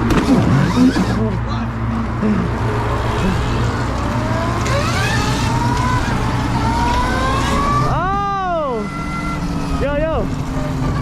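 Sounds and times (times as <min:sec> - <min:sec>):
electric motor whining: 0:00.1 - 0:01.3, 0:02.0 - 0:11.0.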